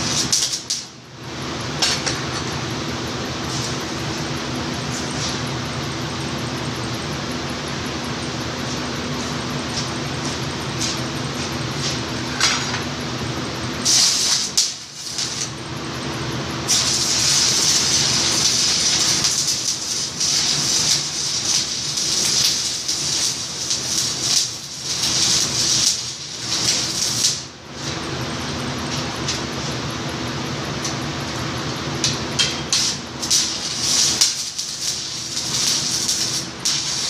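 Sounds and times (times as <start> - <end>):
steady low hum: 0.0 - 37.0
welding arc crackling and hissing: 0.0 - 37.0.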